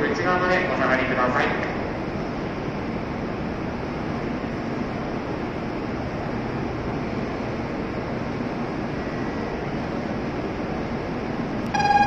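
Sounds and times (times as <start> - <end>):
stopped train humming: 0.0 - 12.0.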